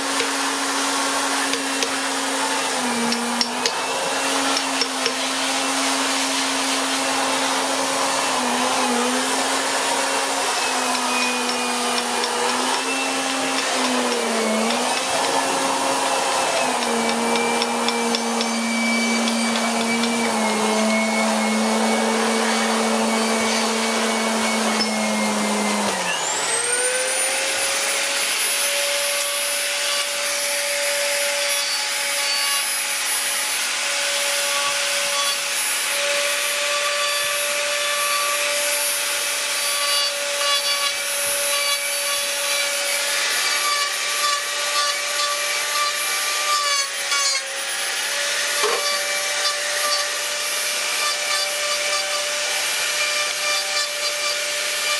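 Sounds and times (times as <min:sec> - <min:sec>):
burr grinding wood: 0:00.0 - 0:54.9
rotary tool motor whining: 0:00.0 - 0:54.9.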